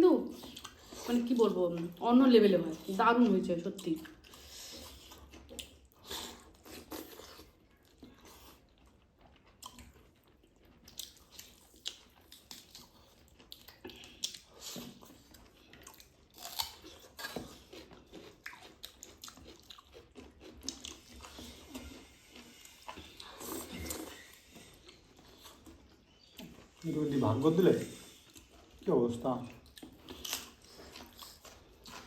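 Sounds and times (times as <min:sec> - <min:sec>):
chewing and mouth smacks: 0:00.3 - 0:02.0, 0:02.6 - 0:32.0.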